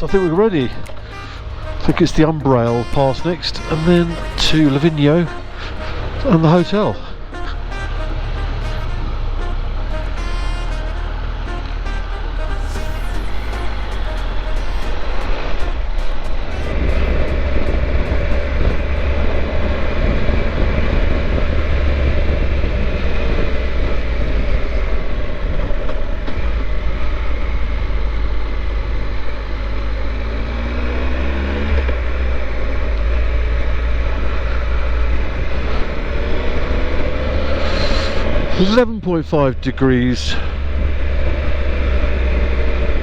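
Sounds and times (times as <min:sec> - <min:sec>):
motorcycle engine running: 0:00.0 - 0:38.8, 0:40.5 - 0:43.0
wind rumble: 0:00.0 - 0:43.0.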